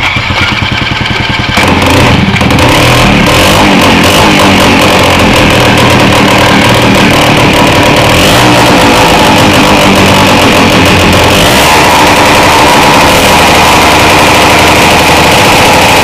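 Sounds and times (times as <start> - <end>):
small two-stroke engine running: 0.0 - 16.0.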